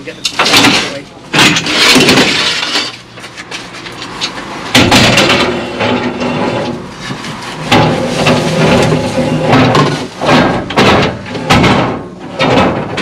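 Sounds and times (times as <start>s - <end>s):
metal ladder frames clattering: 0.2s - 13.0s.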